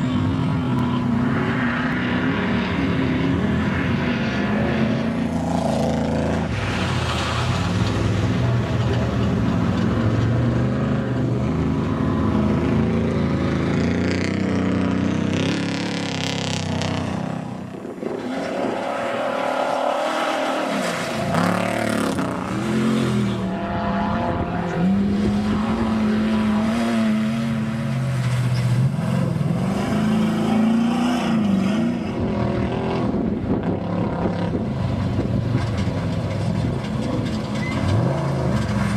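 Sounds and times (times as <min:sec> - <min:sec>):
race truck engines revving: 0:00.0 - 0:38.9.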